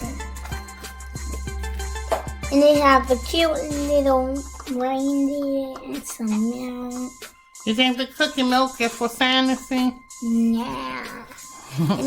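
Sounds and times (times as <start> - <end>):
background music with steady bass: 0.0 - 12.0.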